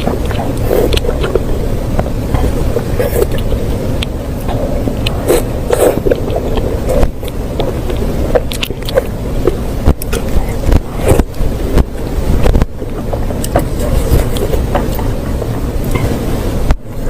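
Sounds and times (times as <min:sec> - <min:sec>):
person chewing with wet clicks: 0:00.0 - 0:16.8
steady low rumble: 0:00.0 - 0:17.0.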